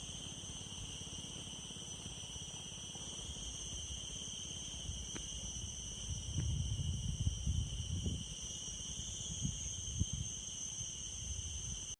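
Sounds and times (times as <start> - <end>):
insect chorus: 0.0 - 11.9.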